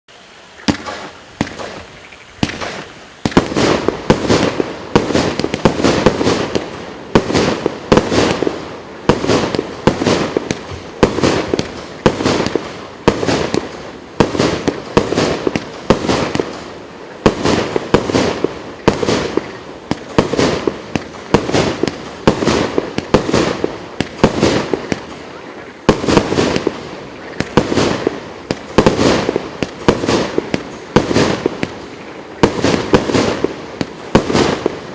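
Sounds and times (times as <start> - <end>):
fireworks shots crackling: 0.6 - 34.9.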